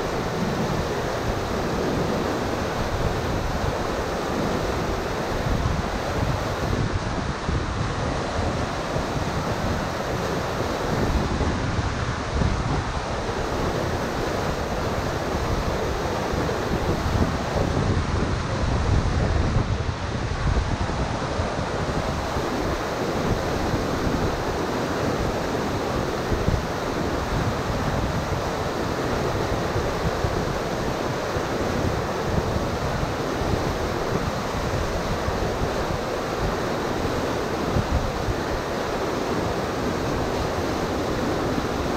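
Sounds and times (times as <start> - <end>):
whitewater rapids rushing: 0.0 - 41.9
wind buffeting microphone: 0.0 - 41.9.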